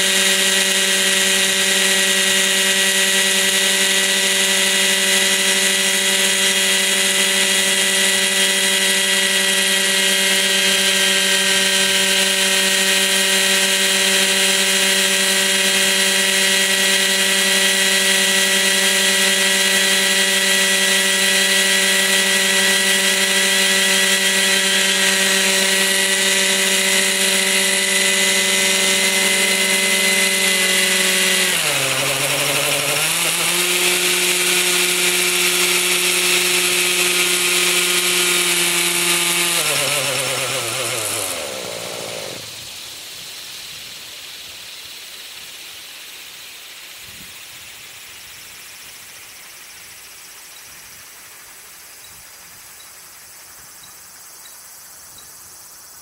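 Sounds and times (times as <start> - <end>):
model helicopter engine whine: 0.0 - 56.0.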